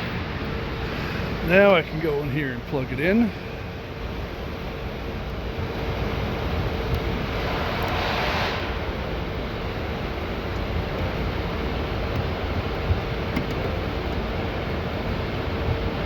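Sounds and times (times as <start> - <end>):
faint steady hum: 0.0 - 16.0
rushing background noise: 0.0 - 16.0.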